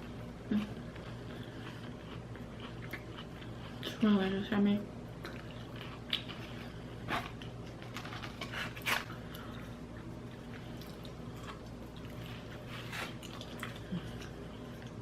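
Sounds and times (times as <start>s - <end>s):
person chewing food: 0.0s - 4.0s, 5.2s - 15.0s
steady low hum: 0.0s - 15.0s.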